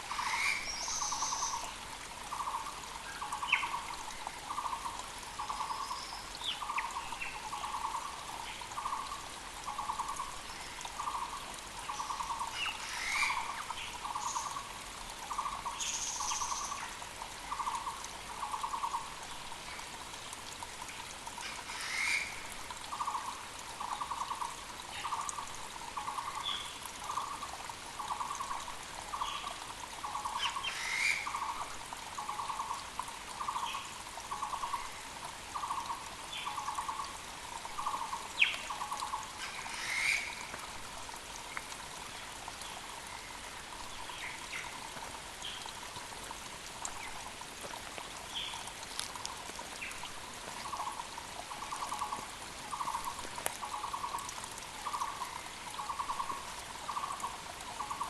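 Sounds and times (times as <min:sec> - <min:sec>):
mountain creek rushing: 0:00.0 - 0:58.0.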